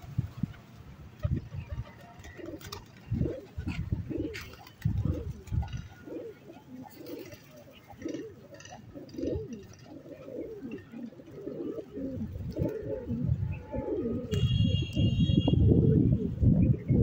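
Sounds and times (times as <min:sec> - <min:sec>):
pigeons cooing: 0:01.2 - 0:17.0.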